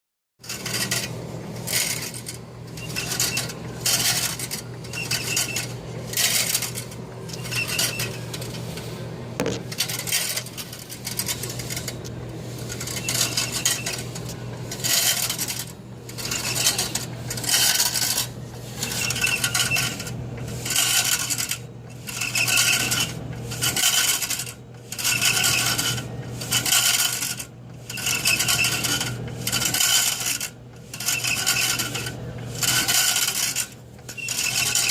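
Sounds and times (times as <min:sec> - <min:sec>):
machine metallic rattling: 0:00.4 - 0:34.9
steady low hum: 0:00.4 - 0:34.9.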